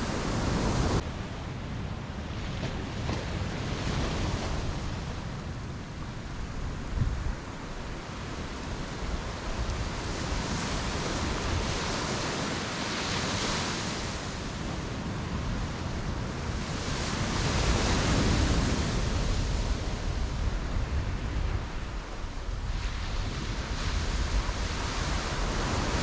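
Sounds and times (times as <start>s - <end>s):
ocean waves breaking on beach: 0.0s - 26.0s
wind rumble on microphone: 0.0s - 26.0s.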